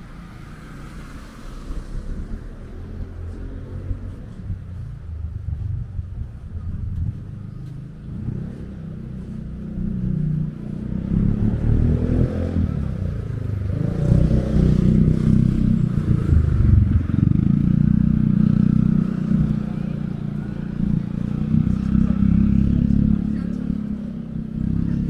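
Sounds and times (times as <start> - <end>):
vehicle engine passing: 0.0 - 25.0.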